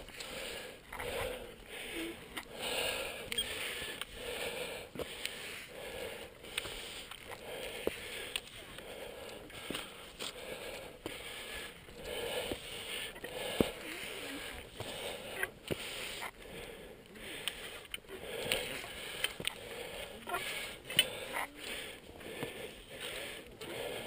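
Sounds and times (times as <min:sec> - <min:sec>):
heavy breathing: 0:00.0 - 0:24.0.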